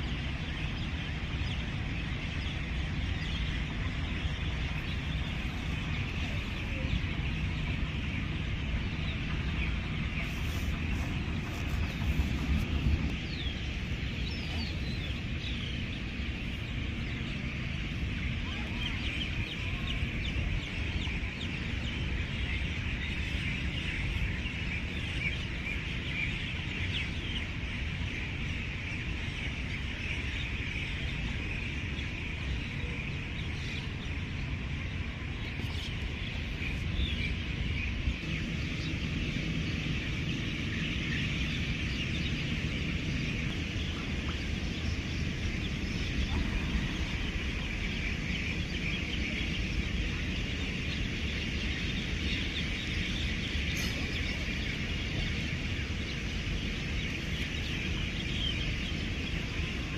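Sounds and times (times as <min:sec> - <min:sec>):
low steady rumble: 0:00.0 - 0:59.9
small birds chirping: 0:00.0 - 0:59.9.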